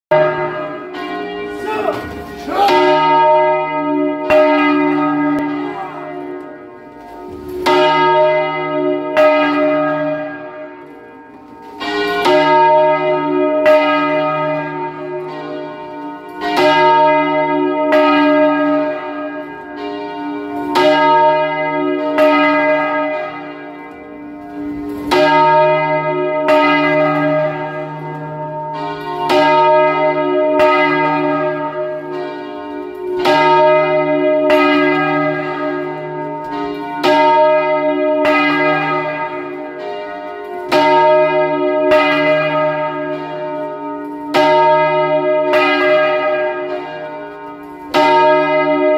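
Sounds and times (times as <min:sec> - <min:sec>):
large church bell ringing: 0:00.1 - 0:48.9.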